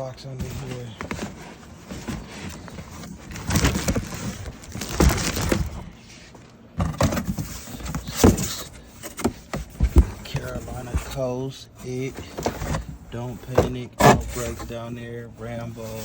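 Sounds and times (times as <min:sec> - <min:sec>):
boxes clunking: 0:00.2 - 0:16.0
boxes knocking and scraping: 0:00.2 - 0:16.0.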